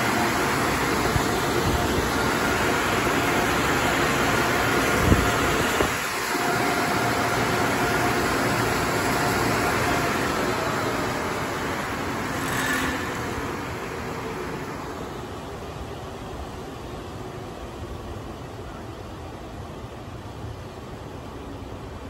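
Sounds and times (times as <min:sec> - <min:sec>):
car wash dryer blowers: 0:00.0 - 0:22.0.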